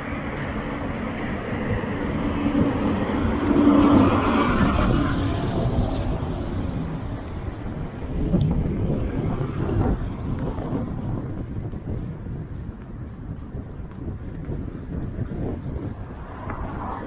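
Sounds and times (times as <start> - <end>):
vehicle passing by: 0.0 - 11.7, 14.5 - 17.0.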